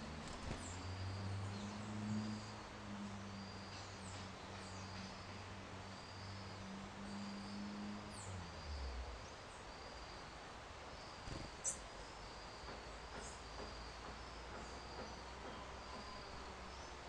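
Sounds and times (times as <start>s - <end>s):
faint insect-like trill: 0.2s - 17.0s.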